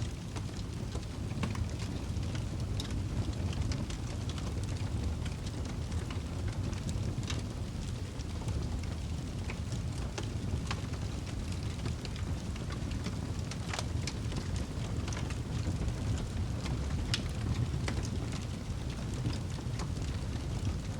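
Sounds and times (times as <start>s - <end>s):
low rumble of fire: 0.0s - 20.9s
wood fire crackling and popping: 0.0s - 20.9s.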